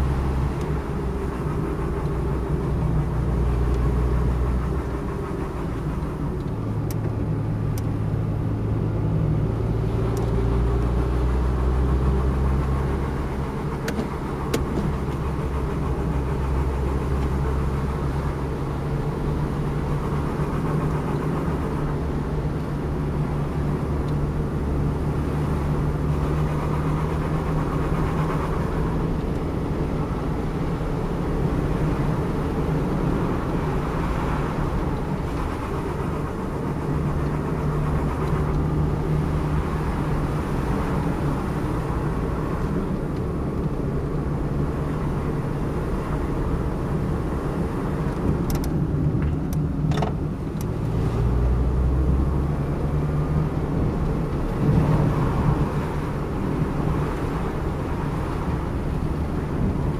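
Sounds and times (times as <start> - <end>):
car engine hum: 0.0 - 59.9.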